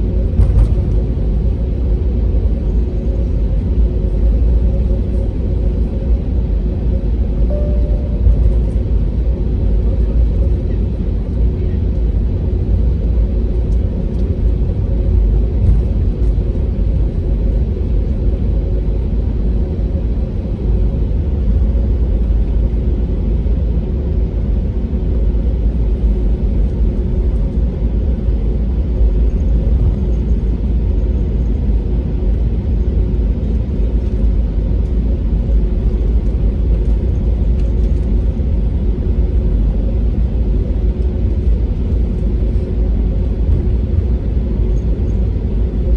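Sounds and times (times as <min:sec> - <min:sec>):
airplane cabin rumble: 0:00.0 - 0:45.9
jet engine hum: 0:00.0 - 0:45.9.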